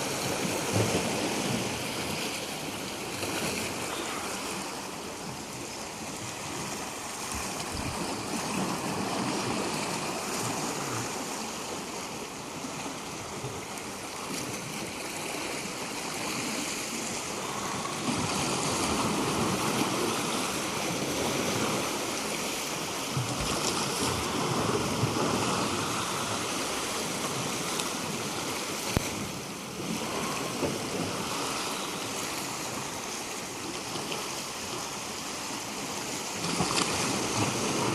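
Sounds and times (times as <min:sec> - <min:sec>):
waves washing on shore: 0:00.0 - 0:37.9.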